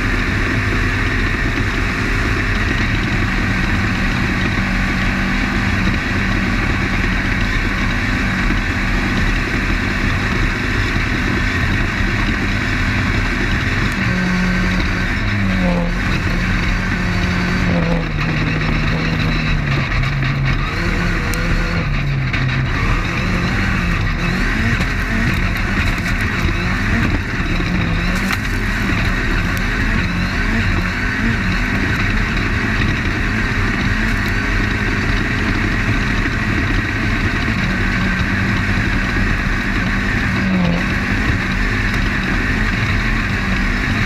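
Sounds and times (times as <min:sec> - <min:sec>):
dirt and chassis noise: 0:00.0 - 0:44.0
heavy wind noise: 0:00.0 - 0:44.0
race car engine: 0:00.0 - 0:44.0.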